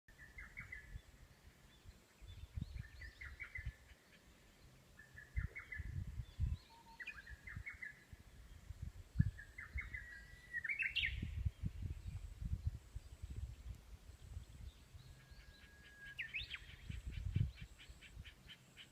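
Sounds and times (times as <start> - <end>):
songbird singing: 0.1 - 18.9.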